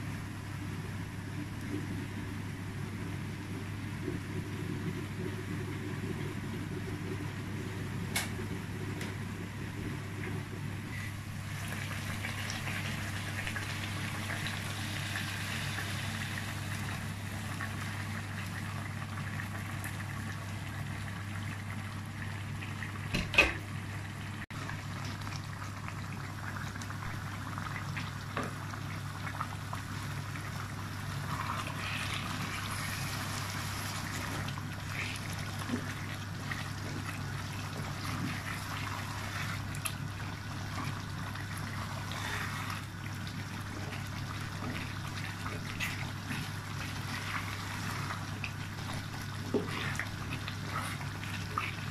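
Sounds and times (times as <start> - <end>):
pot bubbling and simmering: 0.0 - 51.9.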